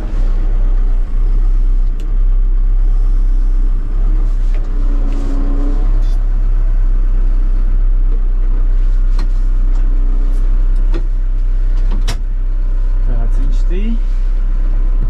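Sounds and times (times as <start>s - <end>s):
diesel engine deep rumble: 0.0s - 15.0s.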